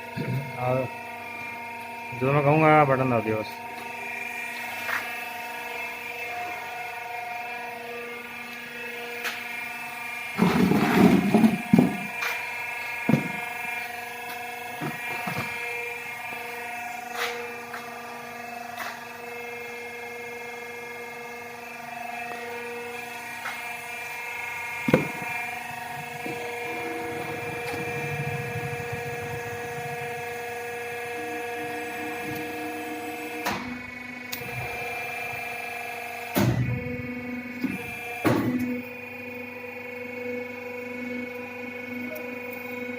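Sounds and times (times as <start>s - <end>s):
pipe bending machine motor whine: 0.0s - 42.9s.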